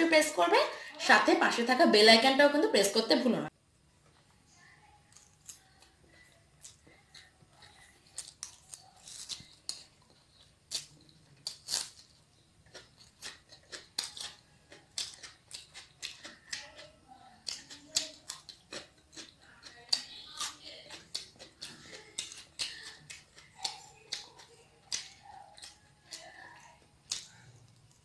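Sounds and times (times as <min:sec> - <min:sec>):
person chewing food: 0:05.1 - 0:28.0.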